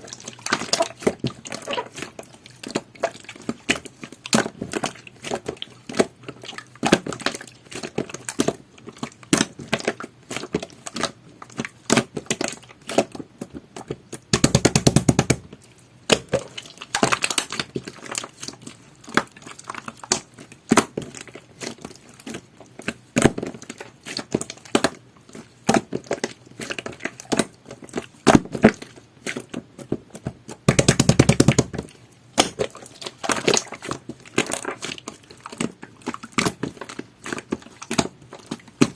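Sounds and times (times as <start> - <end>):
fast crackling of slime: 0.0 - 38.9
slime squishing with sticky clicks: 0.0 - 38.9.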